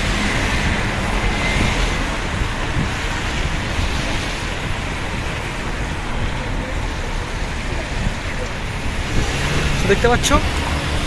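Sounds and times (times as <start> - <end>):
road traffic rushing: 0.0 - 11.0
wind buffeting microphone: 0.0 - 11.0.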